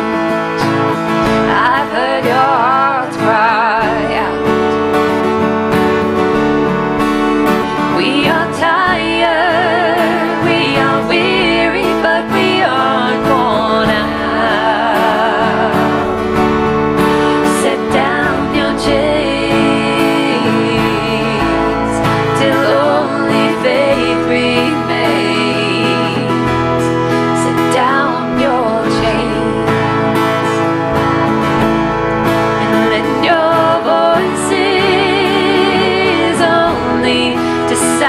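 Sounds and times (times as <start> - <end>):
sustained instrumental accompaniment: 0.0 - 38.0
women singing in harmony: 1.3 - 6.0, 7.5 - 30.8, 32.6 - 38.0.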